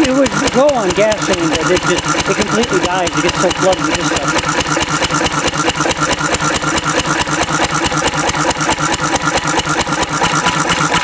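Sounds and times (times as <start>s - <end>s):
stationary engine running: 0.0s - 11.0s.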